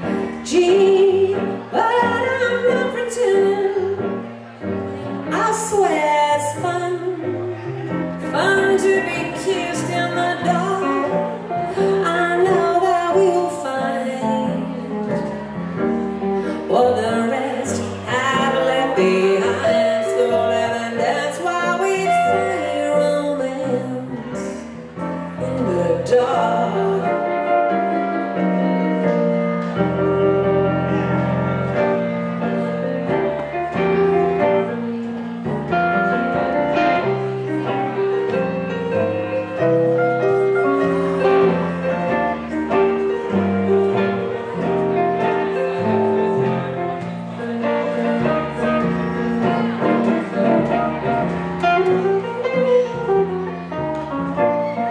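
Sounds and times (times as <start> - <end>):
keyboard piano sound: 0.0 - 54.9.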